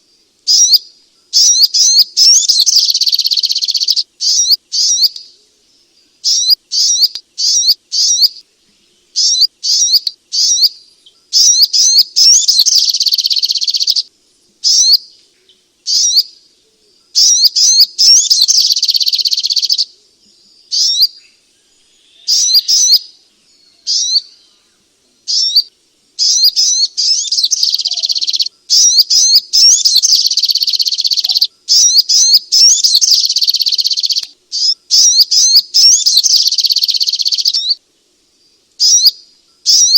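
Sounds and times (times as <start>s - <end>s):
bird chirping: 0.0s - 37.8s, 38.4s - 39.9s.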